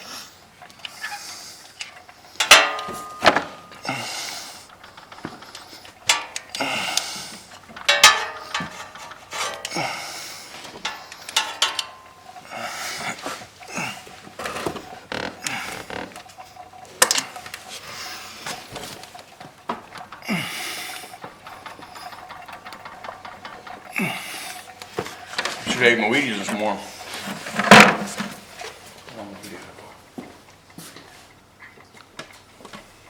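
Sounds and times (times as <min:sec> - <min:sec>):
hand tools clinking on metal: 0:00.8 - 0:28.8.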